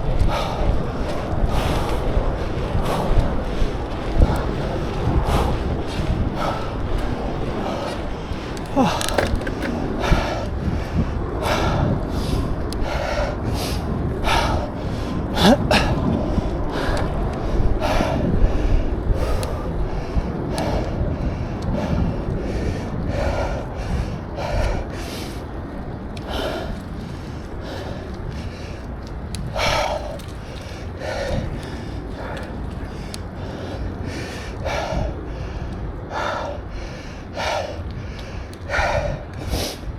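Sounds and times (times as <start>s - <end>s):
person breathing hard: 0.0s - 39.9s
road rumble: 0.0s - 39.9s
wind on microphone: 0.0s - 39.9s.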